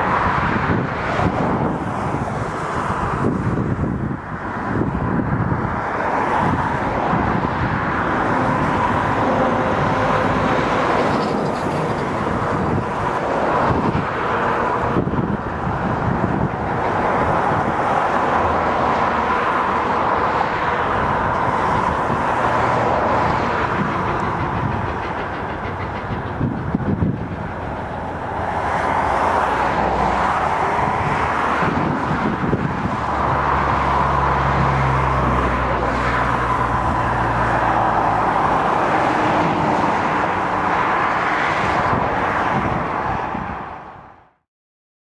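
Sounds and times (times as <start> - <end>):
steam train running past: 6.1 - 42.8.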